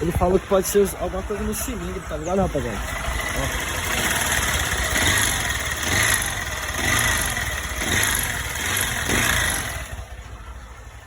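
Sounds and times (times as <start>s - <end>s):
abnormal mechanical engine noise: 0.0s - 11.0s
motorcycle engine running: 0.0s - 11.0s.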